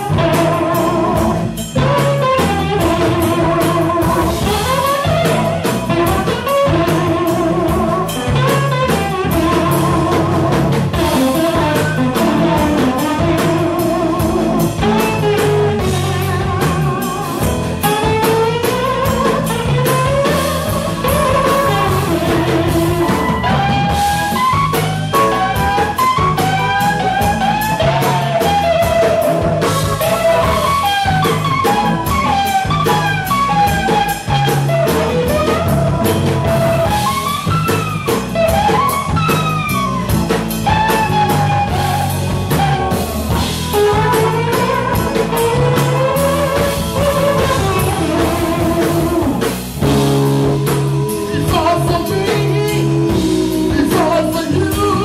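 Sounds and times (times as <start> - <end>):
blues band playing: 0.0 - 55.0
electric guitar lead with bent notes: 0.0 - 55.0.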